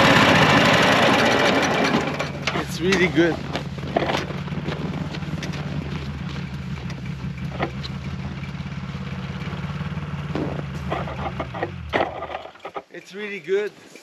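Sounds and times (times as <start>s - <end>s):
gasoline engine idling: 0.0s - 13.2s.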